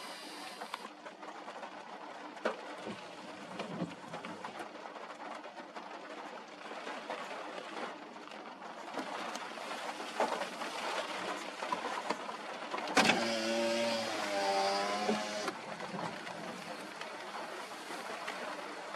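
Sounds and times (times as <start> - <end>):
rain: 0.0 - 18.9.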